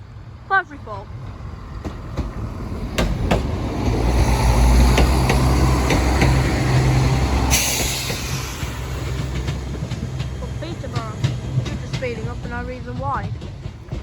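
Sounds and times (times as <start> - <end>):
train engine rumble: 0.0 - 14.0
wheels clicking over rail joints: 1.7 - 14.0.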